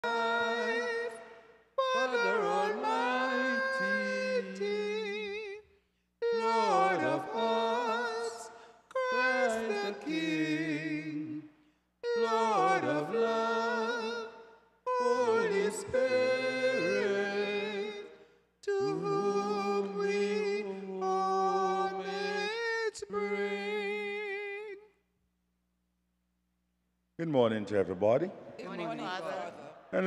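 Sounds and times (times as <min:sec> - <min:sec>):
hymn singing with vibrato: 0:00.0 - 0:25.0, 0:27.2 - 0:30.0.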